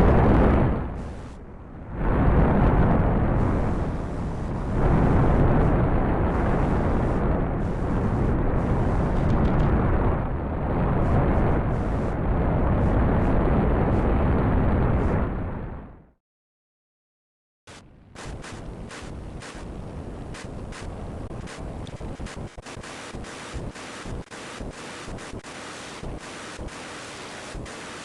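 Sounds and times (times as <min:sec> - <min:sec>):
rocket engines rumbling: 0:00.0 - 0:15.9, 0:17.7 - 0:28.0.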